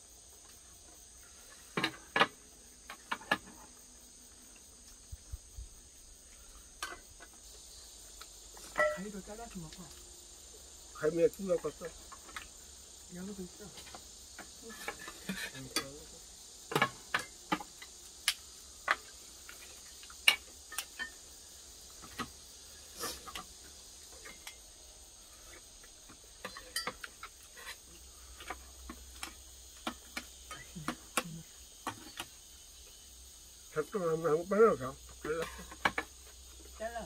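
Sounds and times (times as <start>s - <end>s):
insect chirring: 0.0s - 37.0s.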